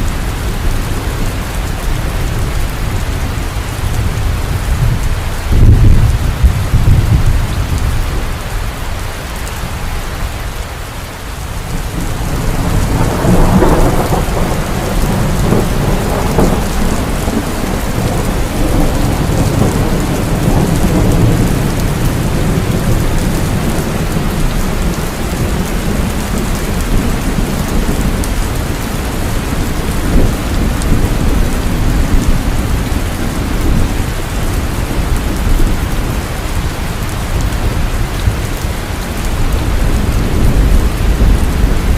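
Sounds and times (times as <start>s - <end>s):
rolling thunder: 0.0s - 8.4s, 11.6s - 41.9s
heavy rain falling: 0.0s - 41.9s.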